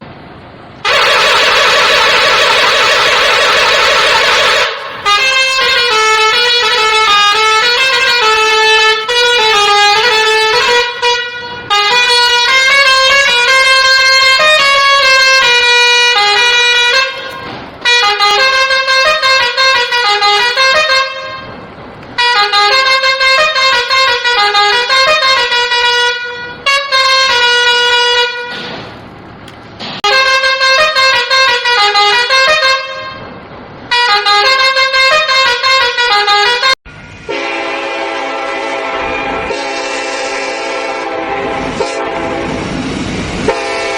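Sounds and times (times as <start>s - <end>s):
horn-like melody: 0.8s - 28.8s, 30.0s - 33.2s, 33.9s - 42.7s, 43.4s - 43.9s.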